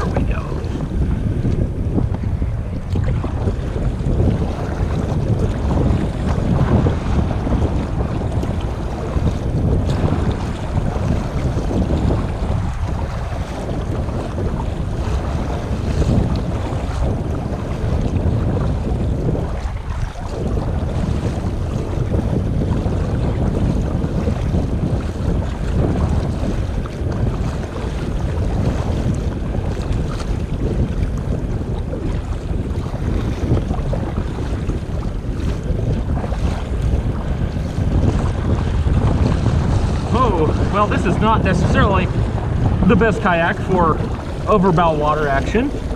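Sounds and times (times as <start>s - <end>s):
waves splashing against kayak: 0.0s - 45.9s
wind buffeting microphone: 0.0s - 45.9s.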